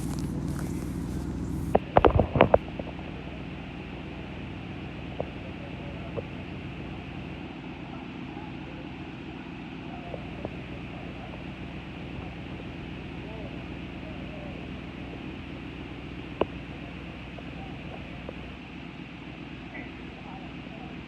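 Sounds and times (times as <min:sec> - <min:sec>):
truck engine humming: 0:00.0 - 0:21.0.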